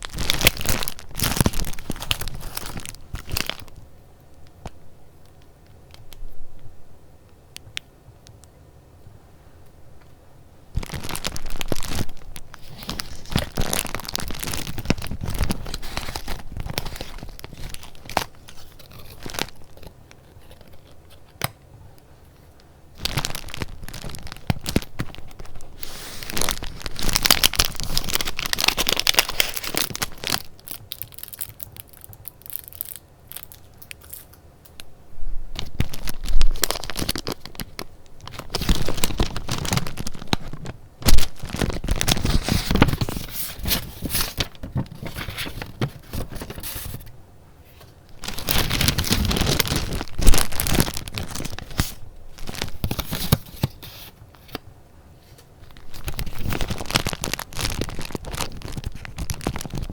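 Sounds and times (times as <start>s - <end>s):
paper crinkling and rustling: 0.0s - 3.8s, 10.8s - 21.5s, 22.3s - 34.4s, 35.5s - 47.1s, 47.7s - 59.9s
sharp paper crackles: 0.0s - 3.8s, 10.8s - 21.4s, 23.0s - 34.3s, 35.6s - 47.0s, 48.2s - 54.6s, 55.2s - 59.9s.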